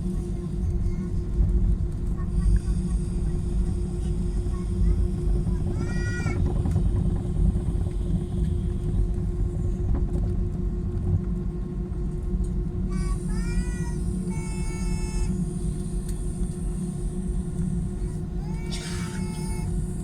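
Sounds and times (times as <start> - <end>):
jet cabin engine rumble: 0.0 - 20.0.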